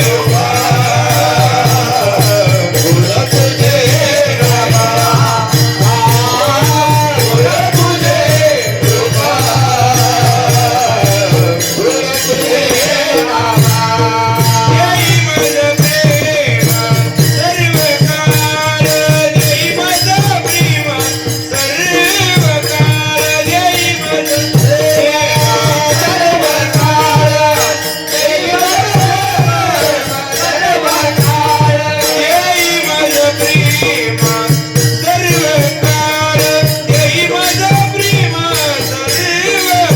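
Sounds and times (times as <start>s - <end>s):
drumming: 0.0s - 39.9s
person singing devotional song: 0.0s - 39.9s.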